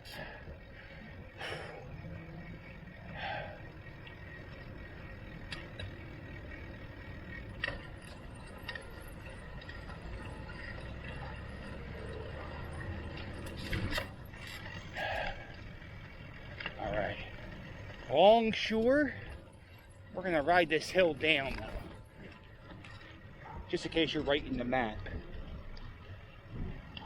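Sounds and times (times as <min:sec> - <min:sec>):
bicycle clicks and rattles: 0:00.0 - 0:27.0
road and wind noise: 0:00.0 - 0:27.0.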